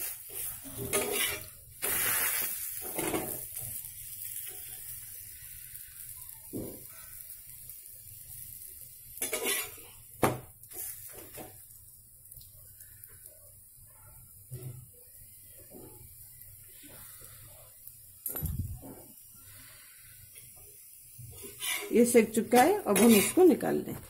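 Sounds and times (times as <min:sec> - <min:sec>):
flatbread sizzling in oil: 0:00.0 - 0:24.0.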